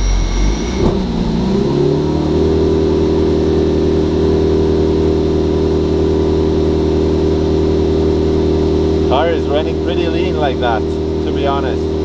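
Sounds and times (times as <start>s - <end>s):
car engine at steady revs: 0.0s - 12.0s.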